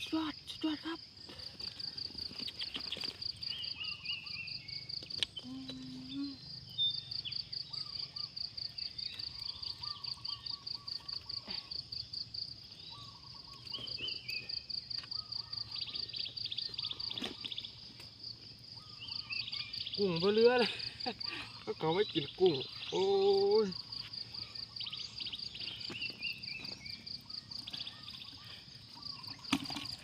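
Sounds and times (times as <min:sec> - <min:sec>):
insects chirping in a rapid trill: 0:00.0 - 0:30.0.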